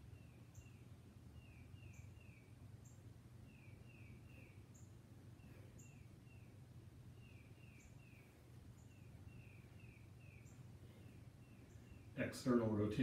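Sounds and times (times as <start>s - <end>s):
bird chirping: 0.0s - 13.0s
faint room hum: 0.0s - 13.0s.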